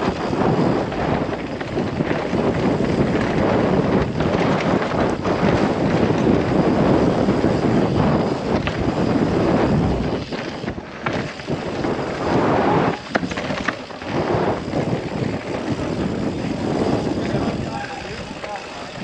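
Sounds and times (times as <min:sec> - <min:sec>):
bike clicks and rattles: 0:00.0 - 0:19.0
bike tyres rolling on dirt: 0:00.0 - 0:19.0
wind buffeting microphone: 0:00.0 - 0:19.0.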